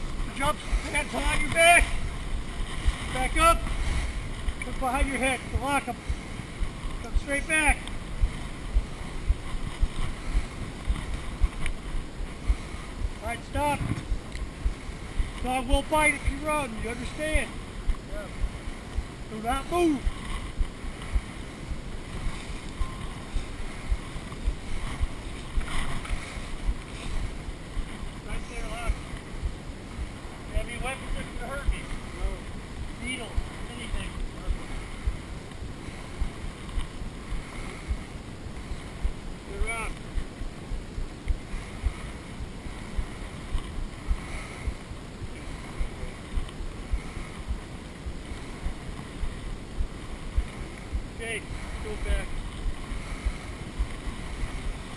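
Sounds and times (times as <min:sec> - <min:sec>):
low thumps: 0:00.0 - 0:16.2, 0:16.8 - 0:30.2, 0:32.8 - 0:38.2, 0:39.0 - 0:54.9
wind rumbling on microphone: 0:00.0 - 0:54.9.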